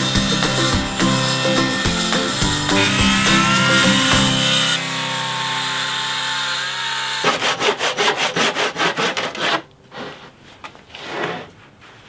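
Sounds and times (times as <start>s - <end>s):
circular saw cutting wood: 0.0s - 9.7s
handsaw sawing strokes: 0.0s - 11.6s.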